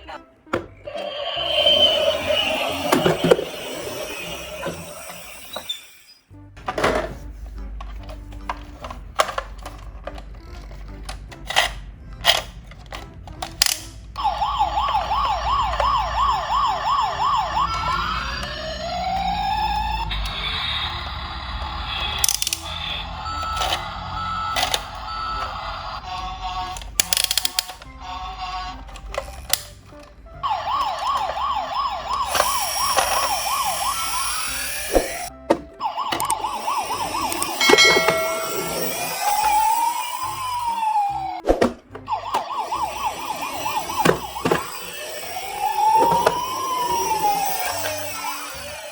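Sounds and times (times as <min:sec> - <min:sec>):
toy electronic siren: 0:00.8 - 0:06.3, 0:14.2 - 0:41.4, 0:42.0 - 0:48.9.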